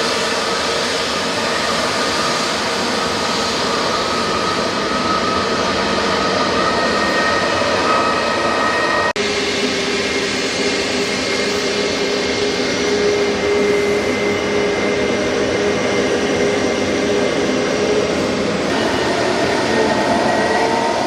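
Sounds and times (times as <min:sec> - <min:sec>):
jet airliner engines running: 0:00.0 - 0:21.0.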